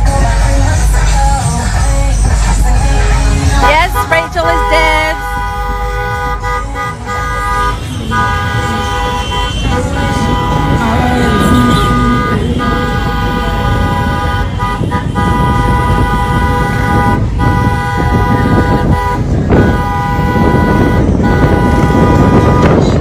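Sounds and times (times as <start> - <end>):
car driving rumble: 0.0 - 23.0
car horns blasting: 3.5 - 23.0.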